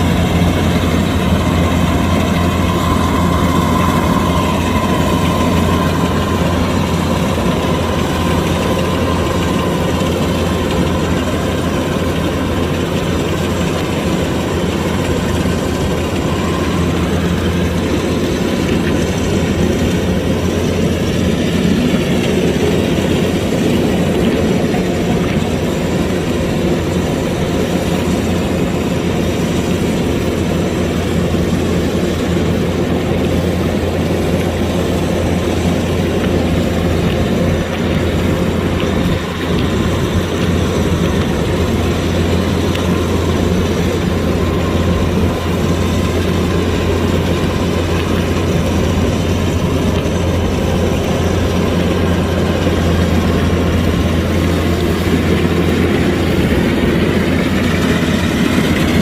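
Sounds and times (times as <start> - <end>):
combine harvester engine humming: 0.0 - 59.0
mechanical whine: 0.0 - 59.0.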